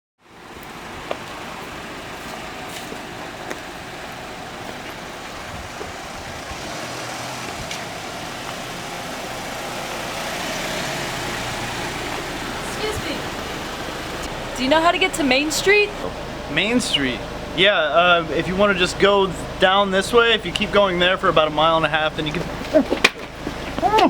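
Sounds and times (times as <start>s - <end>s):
road traffic noise: 0.2s - 24.0s.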